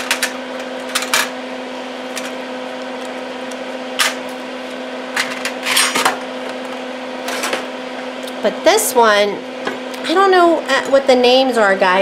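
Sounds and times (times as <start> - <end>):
small fan humming: 0.0 - 12.0.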